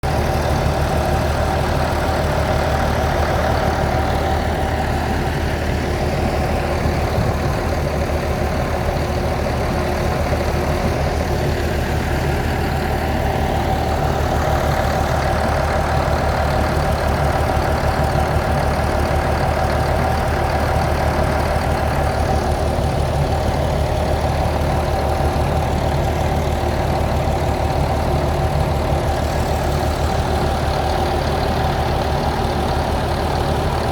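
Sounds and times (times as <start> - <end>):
drilling rig engine droning: 0.0 - 33.9.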